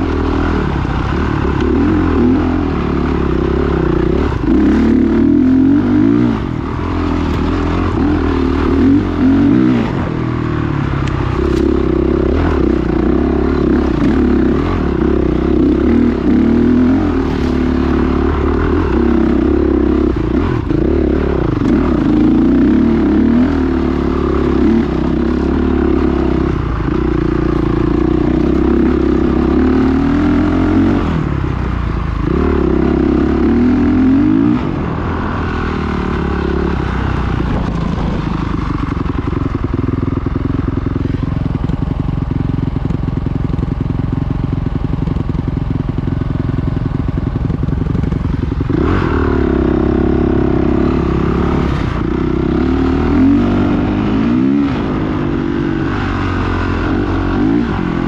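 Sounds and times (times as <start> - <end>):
dirt bike engine revving: 0.0 - 41.8, 47.1 - 58.0.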